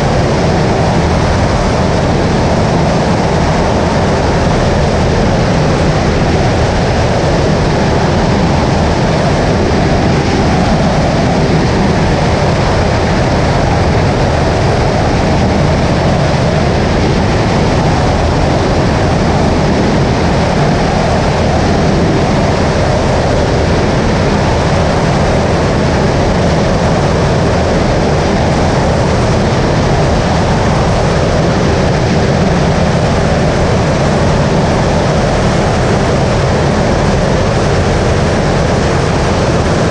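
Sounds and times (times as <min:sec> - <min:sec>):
light aircraft engine drone: 0:00.0 - 0:39.9
rushing airflow: 0:00.0 - 0:39.9.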